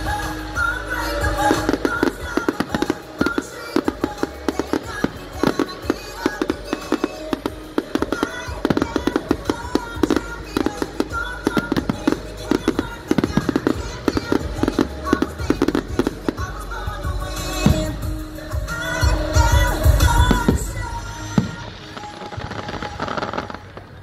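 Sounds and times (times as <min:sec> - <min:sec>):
fireworks popping and crackling: 0:00.0 - 0:24.0
music playing: 0:00.0 - 0:24.0.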